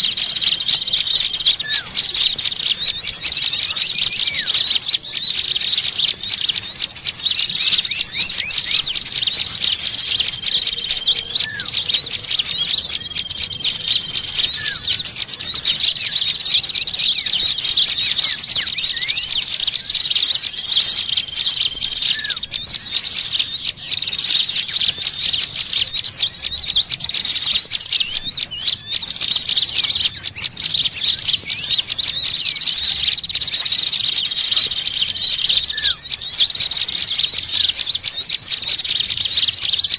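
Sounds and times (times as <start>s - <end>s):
songbirds chattering and twittering: 0.0s - 39.9s
whistled notes: 0.7s - 33.6s.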